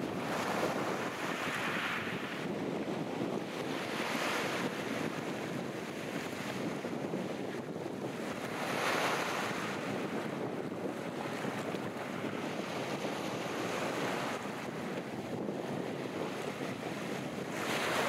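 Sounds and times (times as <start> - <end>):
sea waves breaking on beach: 0.0 - 18.0
wind buffeting microphone: 0.0 - 18.0.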